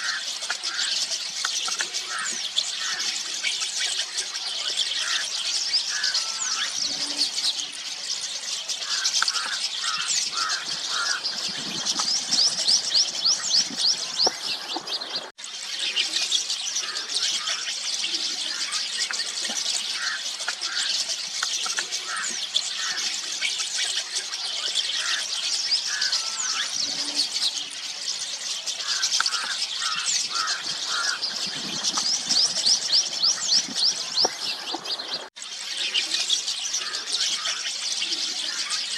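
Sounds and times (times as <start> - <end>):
starlings chattering: 0.0 - 38.9.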